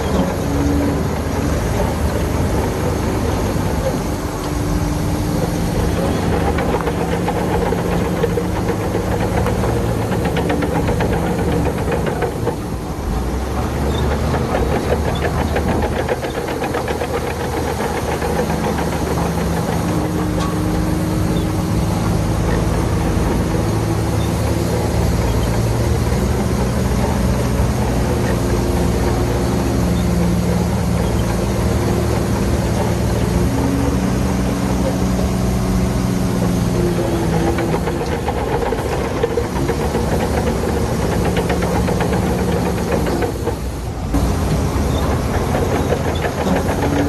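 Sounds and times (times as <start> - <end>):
heavy machine diesel engine running: 0.0 - 47.0.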